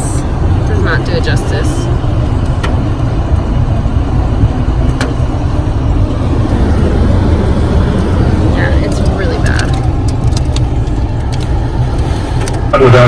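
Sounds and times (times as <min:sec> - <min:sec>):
heavy rain and wind on car: 0:00.0 - 0:13.0.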